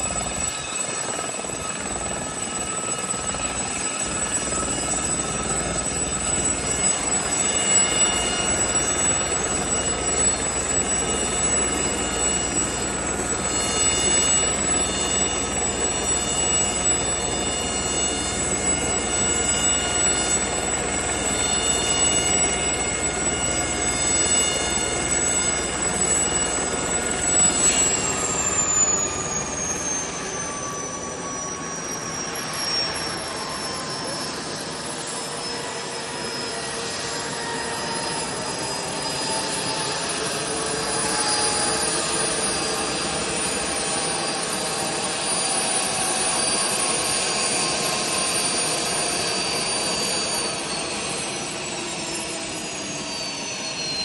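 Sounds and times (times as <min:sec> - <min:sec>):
helicopter rotor and engine noise: 0:00.0 - 0:54.0
high turbine whine: 0:00.0 - 0:54.0.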